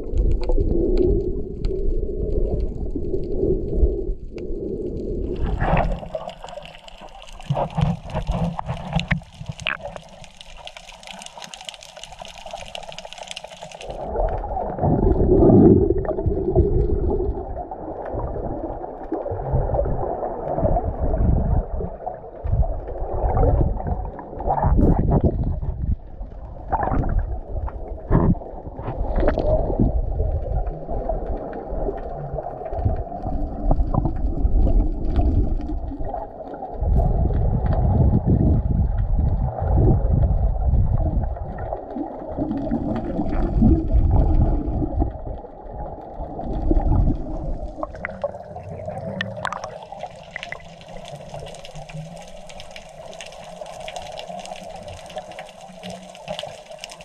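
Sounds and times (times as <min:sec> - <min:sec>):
underwater rushing and gurgling: 0:00.0 - 0:57.0.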